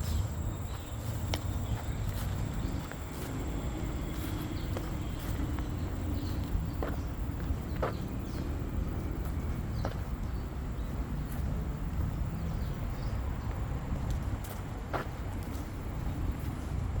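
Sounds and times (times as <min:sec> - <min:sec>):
footsteps on a trail: 0:00.0 - 0:17.0
steady low rumble: 0:00.0 - 0:17.0.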